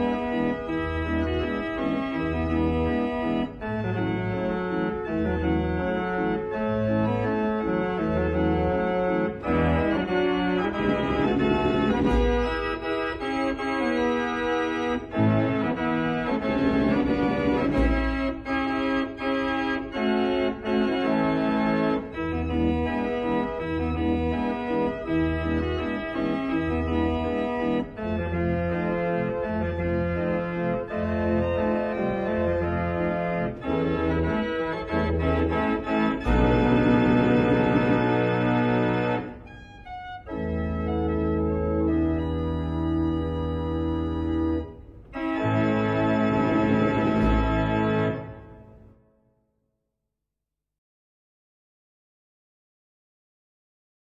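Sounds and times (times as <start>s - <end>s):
organ music with bass line: 0.0s - 49.0s.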